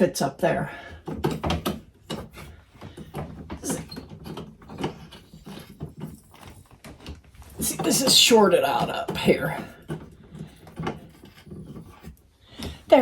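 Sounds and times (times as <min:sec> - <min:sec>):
things handled in refrigerator: 0:00.0 - 0:13.0.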